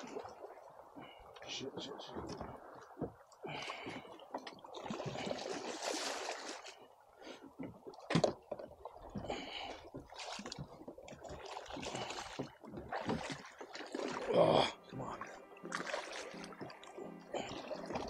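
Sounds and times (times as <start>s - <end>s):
water splashing against boat hull: 0.0s - 18.0s.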